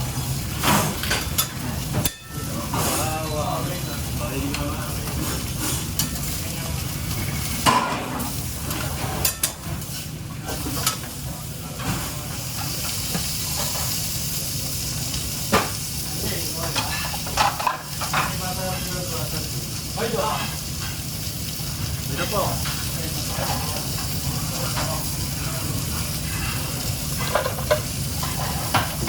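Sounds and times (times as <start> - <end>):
food sizzling in a pan: 0.0 - 29.0
utensils clinking on cookware: 0.6 - 14.4, 15.1 - 21.1, 22.1 - 29.0.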